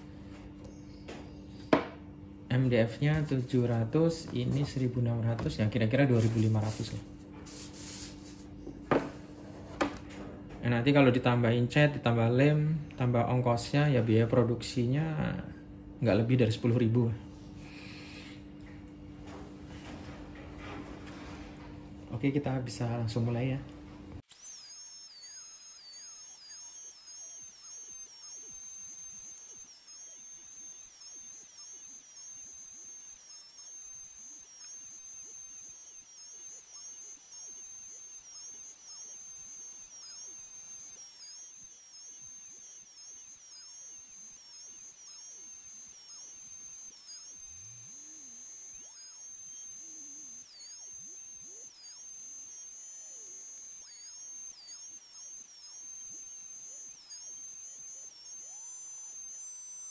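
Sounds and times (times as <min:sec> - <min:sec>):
router spindle high-pitched whine: 0:00.0 - 0:23.6, 0:24.2 - 0:59.9.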